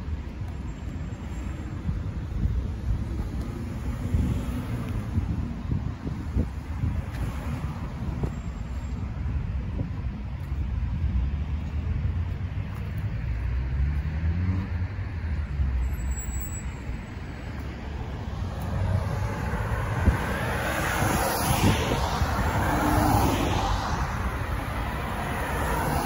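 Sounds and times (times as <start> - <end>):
tyre noise of cars: 0.0 - 26.0.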